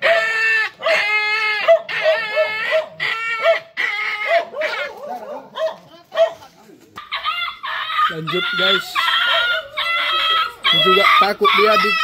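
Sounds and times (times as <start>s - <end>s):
dog wailing and yelping: 0.0s - 12.0s.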